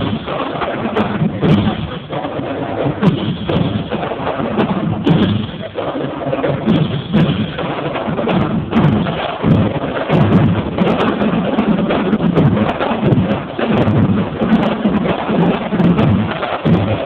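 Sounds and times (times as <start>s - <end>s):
drumline playing fast cadence: 0.0s - 17.0s.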